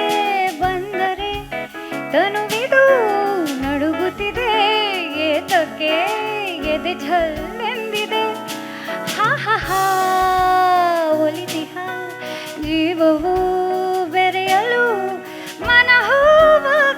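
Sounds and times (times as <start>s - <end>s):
instrumental accompaniment chords: 0.0s - 16.9s.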